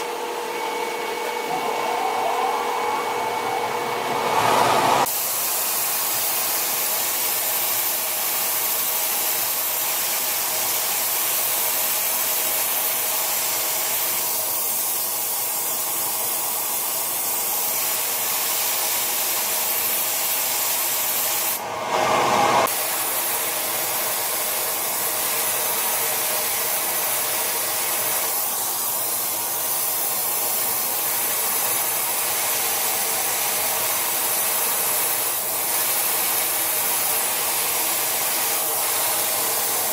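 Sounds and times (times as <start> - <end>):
metal spray gun hissing: 4.8 - 21.6, 22.6 - 39.9.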